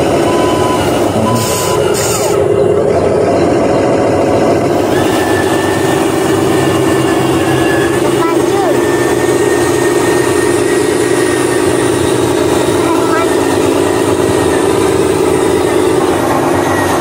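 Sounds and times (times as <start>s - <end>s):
simulated truck engine running: 0.0s - 17.0s.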